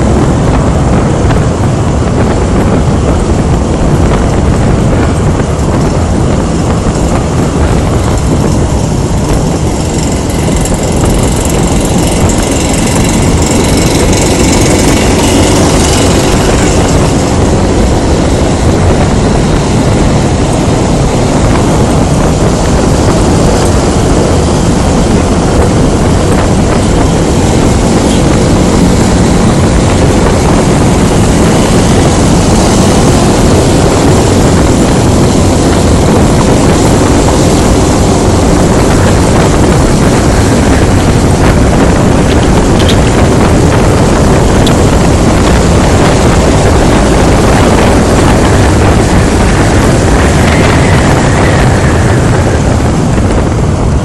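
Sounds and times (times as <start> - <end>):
scooter engine running: 0.0 - 54.0
wind buffeting microphone: 0.0 - 54.0.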